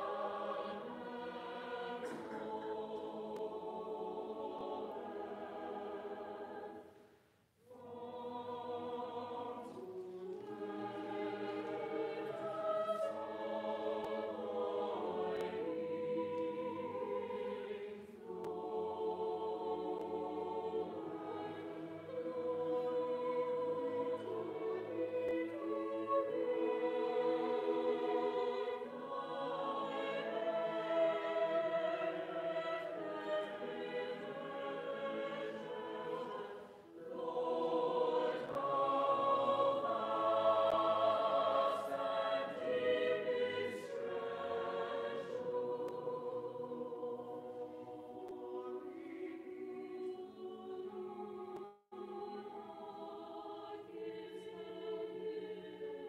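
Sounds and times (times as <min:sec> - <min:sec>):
choir singing unaccompanied: 0:00.0 - 0:07.0, 0:07.6 - 0:56.0.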